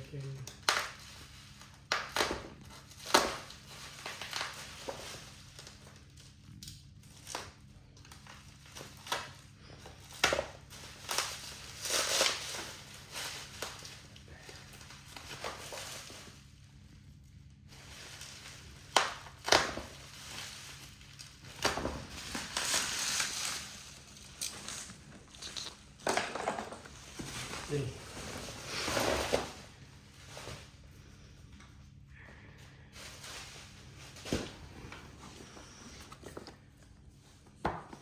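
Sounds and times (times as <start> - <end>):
packaging crinkling and rustling: 0.1 - 30.9.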